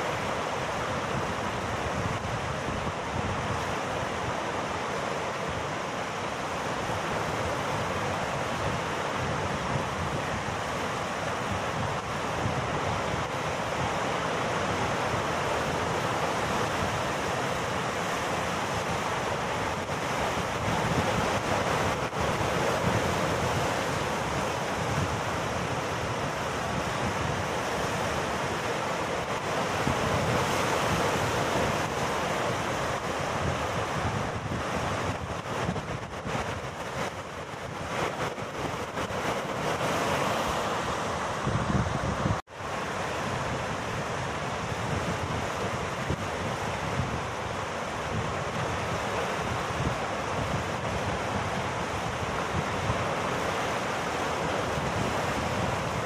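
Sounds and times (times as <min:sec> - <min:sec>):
surf breaking around rocks: 0:00.0 - 0:56.0.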